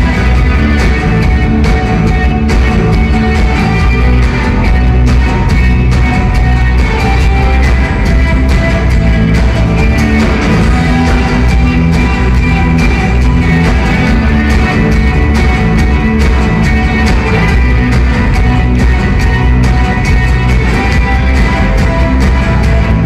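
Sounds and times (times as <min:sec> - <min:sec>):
rock band playing loud: 0:00.0 - 0:23.0
steady drum beat: 0:00.0 - 0:23.0.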